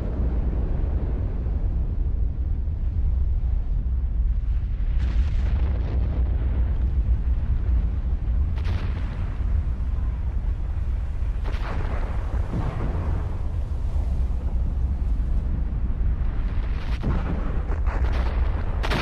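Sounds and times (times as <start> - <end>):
deep volcanic rumble: 0.0 - 19.0.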